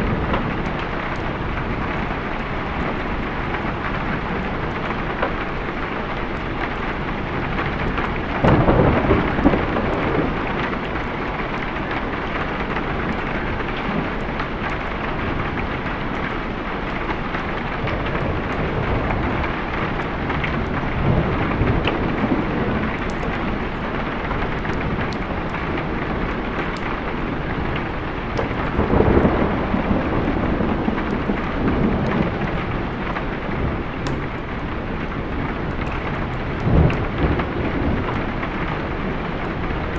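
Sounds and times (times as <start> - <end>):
heavy rain: 0.0 - 39.9
rolling thunder: 0.0 - 39.9.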